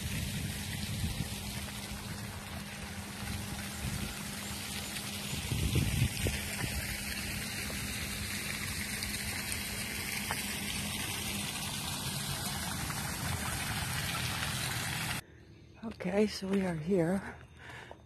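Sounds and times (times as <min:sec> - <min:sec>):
fountain water splashing: 0:00.0 - 0:15.2.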